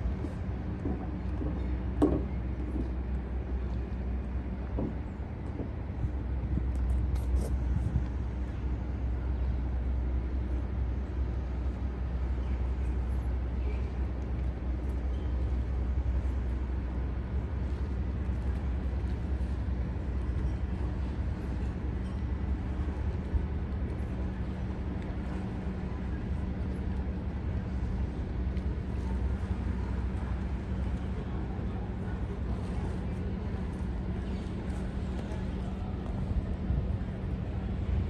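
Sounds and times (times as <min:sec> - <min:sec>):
low rumble: 0:00.0 - 0:38.0.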